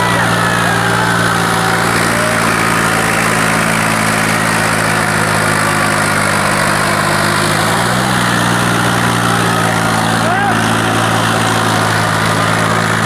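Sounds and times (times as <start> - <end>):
tractor diesel engine running hard: 0.0 - 13.0.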